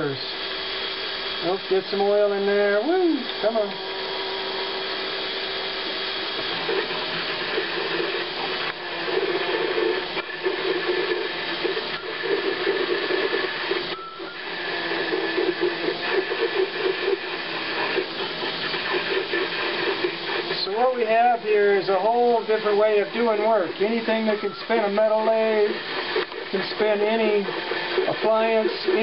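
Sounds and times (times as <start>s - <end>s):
drill cutting chatter: 0.0s - 29.0s
lathe motor hum: 0.0s - 29.0s.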